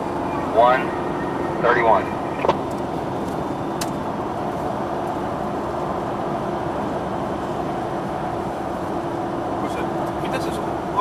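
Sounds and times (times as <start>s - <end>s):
road and engine noise in truck cabin: 0.0s - 11.0s.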